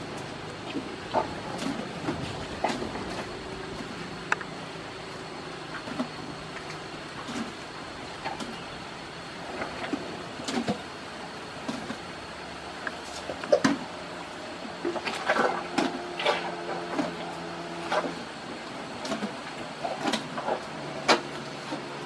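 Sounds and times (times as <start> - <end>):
elephants chewing and crunching: 0.0 - 22.0
steady background hiss: 0.0 - 22.0.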